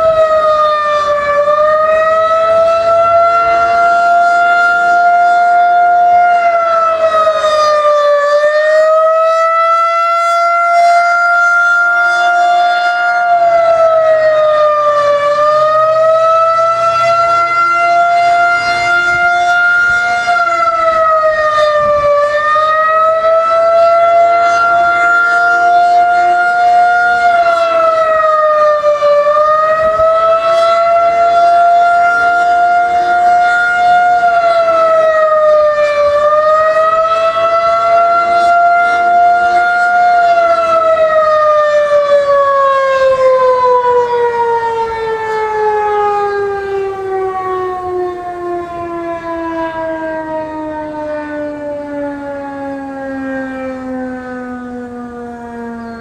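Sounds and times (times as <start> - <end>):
outdoor warning siren: 0.0 - 56.0.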